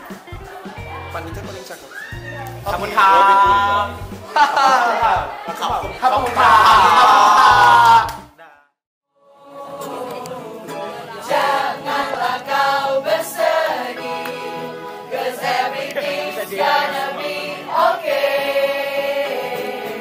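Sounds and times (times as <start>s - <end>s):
choir singing: 2.7s - 8.0s, 9.2s - 20.0s.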